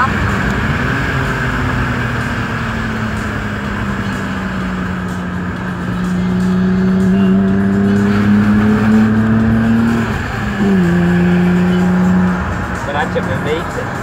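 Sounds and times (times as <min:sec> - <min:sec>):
car engine accelerating from inside: 0:00.0 - 0:14.0.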